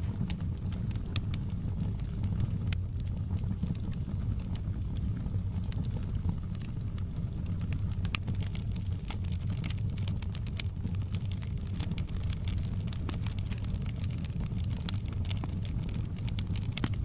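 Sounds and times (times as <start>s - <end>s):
fire popping and crackling: 0.0s - 17.0s
low rumble of flames: 0.0s - 17.0s.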